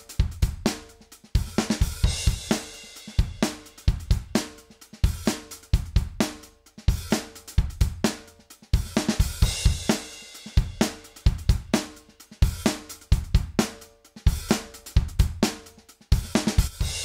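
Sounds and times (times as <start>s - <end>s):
compressed drum kit loop: 0.0s - 17.0s.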